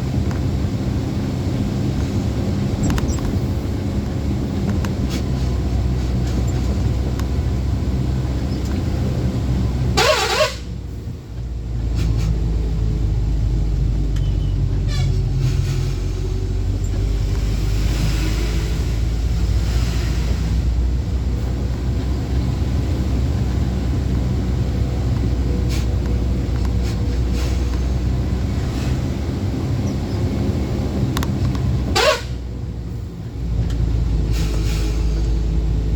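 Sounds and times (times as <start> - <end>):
low road rumble: 0.0 - 35.9
truck engine running: 0.0 - 35.9.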